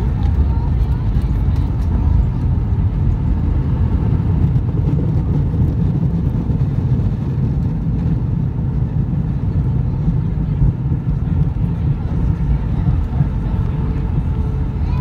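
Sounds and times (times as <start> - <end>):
aircraft cabin low rumble: 0.0 - 15.0.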